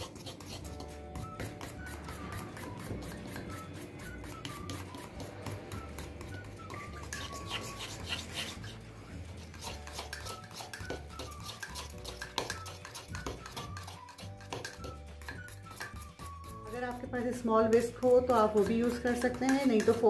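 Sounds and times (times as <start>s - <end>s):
spoon stirring batter in mug: 0.0s - 20.0s.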